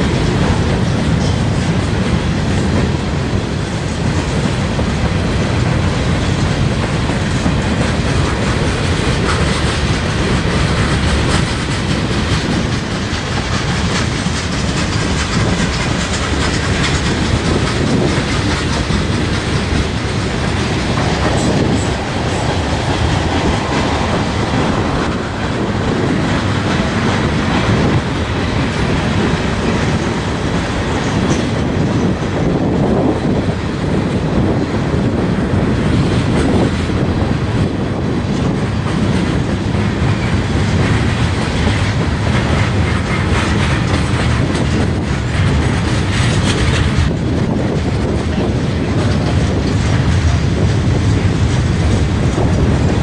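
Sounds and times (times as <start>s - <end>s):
freight train wheels clattering on rails: 0.0s - 53.0s.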